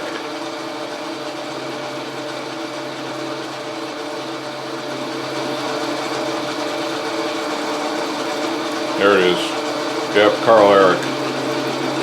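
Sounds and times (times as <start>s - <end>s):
metal lathe gear-train running: 0.0s - 12.0s.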